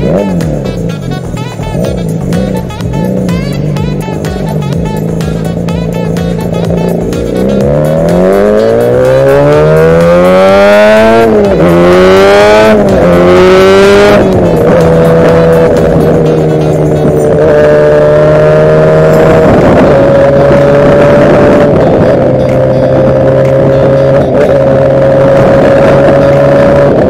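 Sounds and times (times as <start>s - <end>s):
two-stroke mini bike accelerating: 0.0s - 27.0s.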